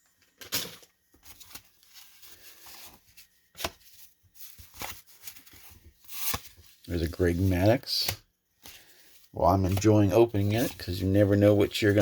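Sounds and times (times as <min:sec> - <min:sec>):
rustling of paper and card: 0:00.0 - 0:12.0.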